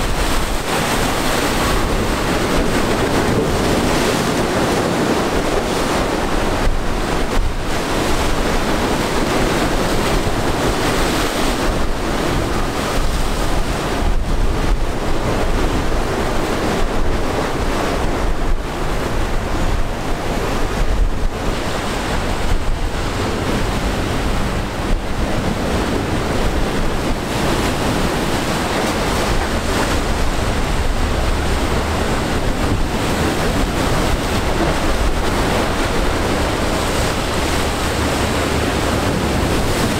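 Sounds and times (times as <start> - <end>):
sea water splashing: 0.0 - 39.9
wind buffeting microphone: 0.0 - 39.9.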